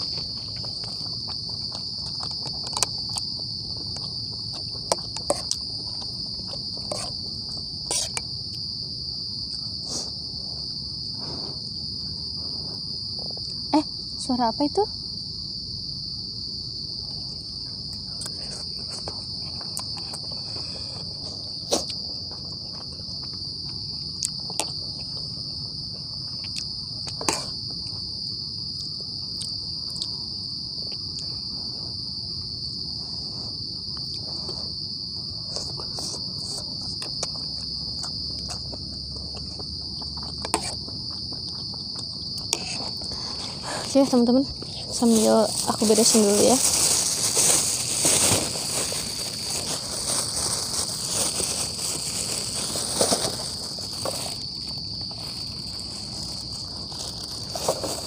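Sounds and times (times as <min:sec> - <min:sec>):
night insects chorus: 0:00.0 - 0:58.0.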